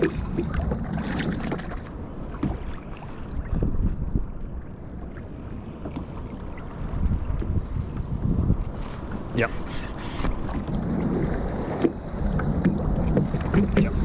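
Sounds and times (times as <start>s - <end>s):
water lapping at hull: 0.0s - 14.0s
wind buffeting microphone: 0.0s - 14.0s.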